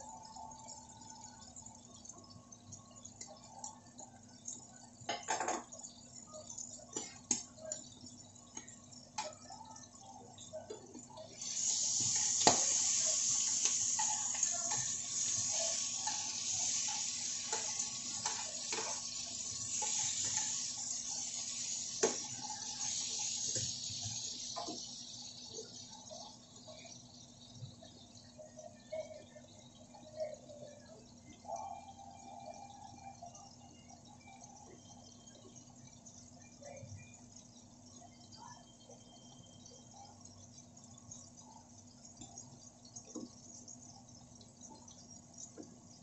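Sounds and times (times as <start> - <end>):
meat sizzling in hot oil: 0.0 - 46.0.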